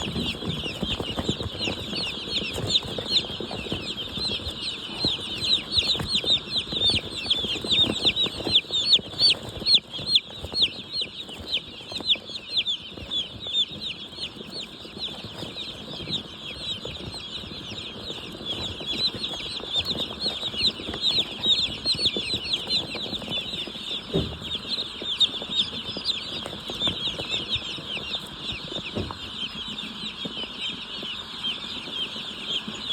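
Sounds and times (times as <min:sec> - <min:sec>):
chickens clucking: 0:00.0 - 0:32.9
chickens peeping: 0:00.0 - 0:32.9.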